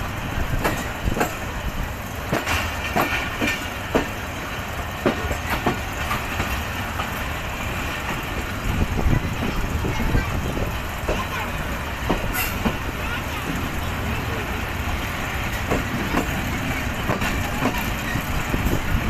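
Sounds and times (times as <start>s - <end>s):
train rumble and rush: 0.0s - 19.0s
wheels clacking over rails: 0.0s - 19.0s.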